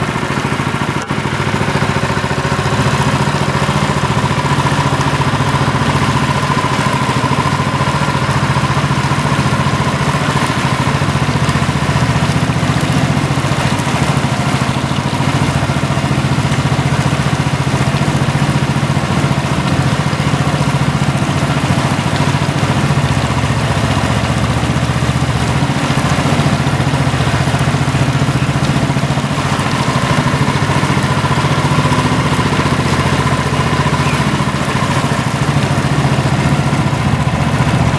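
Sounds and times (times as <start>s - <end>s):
motor running with hum: 0.0s - 37.9s.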